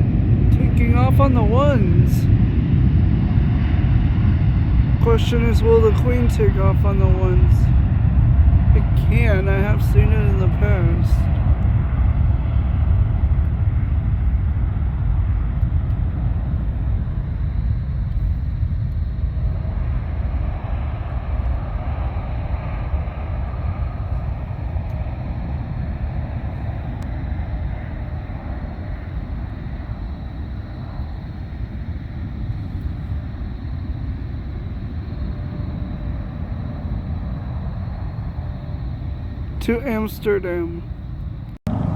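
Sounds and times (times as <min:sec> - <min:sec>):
jet engines rumbling: 0:00.0 - 0:41.9.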